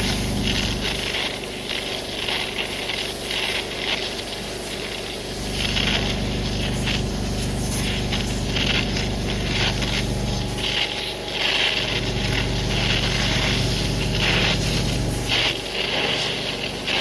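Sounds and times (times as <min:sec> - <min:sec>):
gas torch flame hissing: 0:00.0 - 0:17.0
steady low hum: 0:00.0 - 0:17.0.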